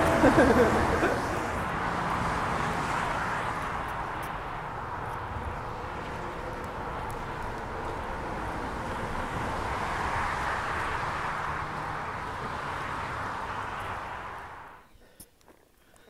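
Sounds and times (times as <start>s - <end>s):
highway traffic roar: 0.0s - 16.0s.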